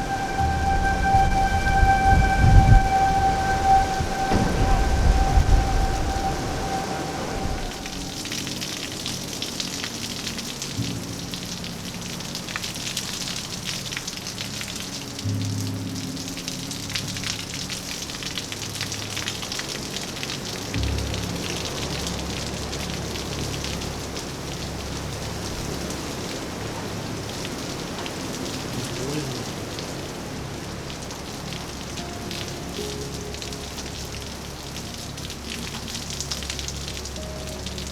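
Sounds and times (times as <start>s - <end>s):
low musical drone: 0.0s - 37.9s
rain pattering: 0.0s - 37.9s.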